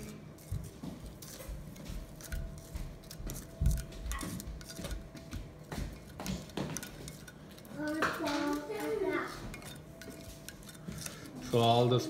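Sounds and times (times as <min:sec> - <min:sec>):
spoon scraping and tapping dish: 0:00.0 - 0:12.0.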